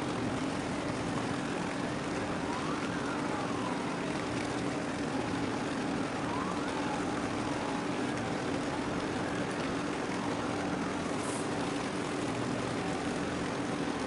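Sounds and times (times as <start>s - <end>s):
faint siren wailing: 0.0s - 14.0s
harbour drone: 0.0s - 14.0s.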